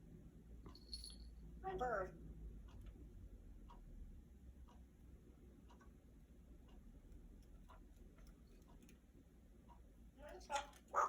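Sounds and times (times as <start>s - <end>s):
faint clock ticking: 0.0s - 11.0s.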